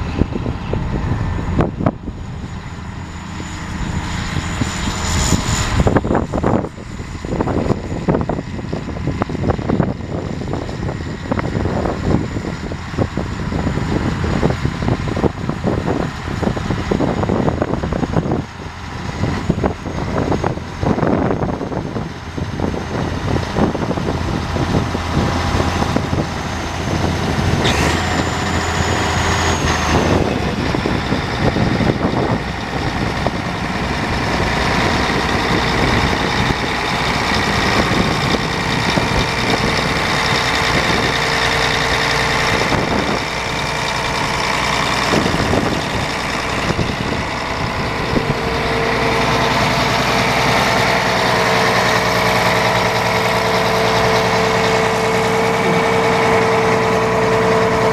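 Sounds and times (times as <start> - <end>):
tractor diesel engine idling: 0.0 - 57.9.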